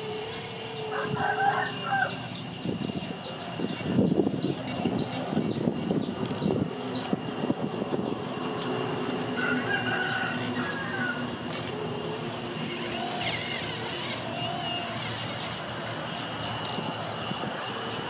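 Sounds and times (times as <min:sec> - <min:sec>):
hydraulic pump whining: 0:00.0 - 0:18.0
chickens calling: 0:00.7 - 0:07.2, 0:07.9 - 0:16.9.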